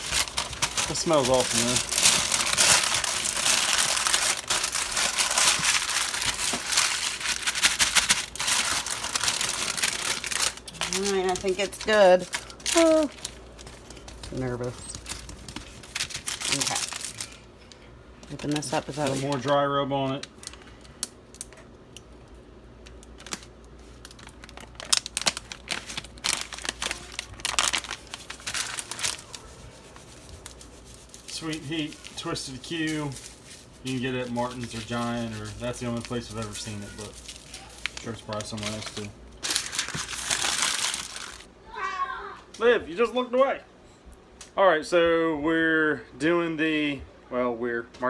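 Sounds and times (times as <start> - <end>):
plastic wrapping crinkling: 0.0 - 21.6, 22.8 - 41.5.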